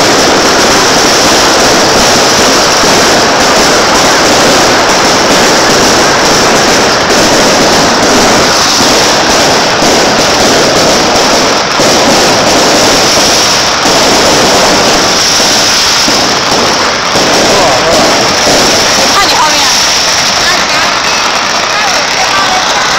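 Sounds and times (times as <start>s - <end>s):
dense firecracker crackle: 0.0s - 22.9s.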